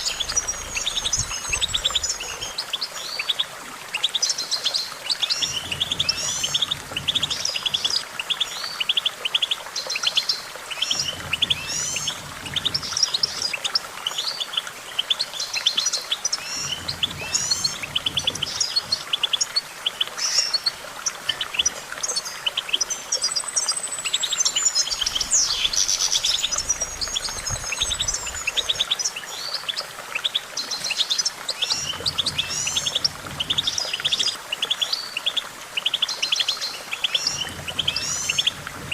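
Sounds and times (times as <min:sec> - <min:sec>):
goldfinch twittering: 0:00.0 - 0:38.9.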